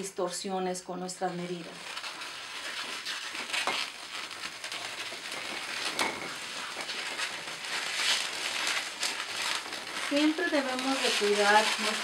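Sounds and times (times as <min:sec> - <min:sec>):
balloons rubbing and squeaking: 0:01.4 - 0:12.0.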